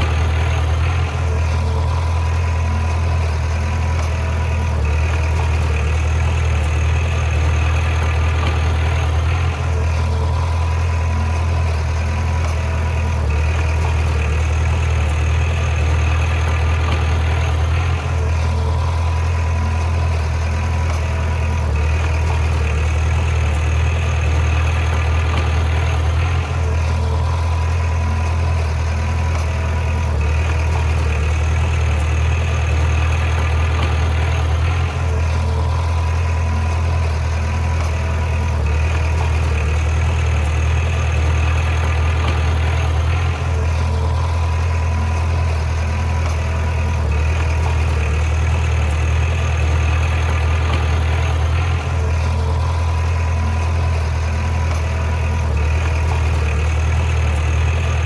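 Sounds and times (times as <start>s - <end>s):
bulldozer diesel engine humming: 0.0s - 58.0s.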